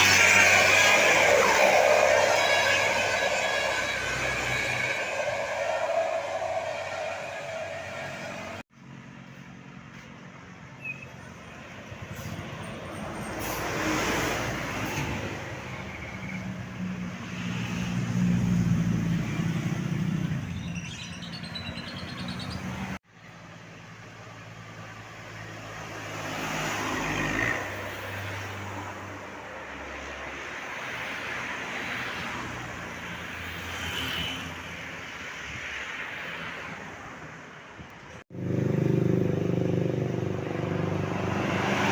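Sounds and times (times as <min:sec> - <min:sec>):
vehicles passing by: 0:00.0 - 0:41.9.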